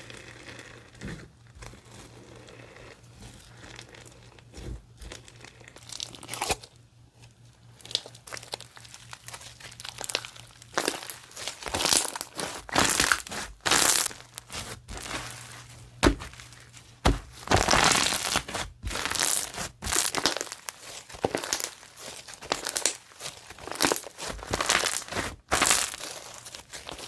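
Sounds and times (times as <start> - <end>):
crunchy slime crackling: 0.0 - 27.0.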